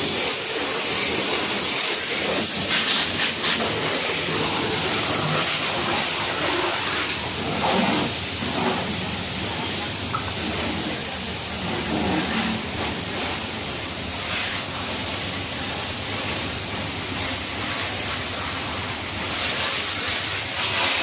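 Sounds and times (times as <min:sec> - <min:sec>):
pressure washer spraying: 0:00.0 - 0:21.0.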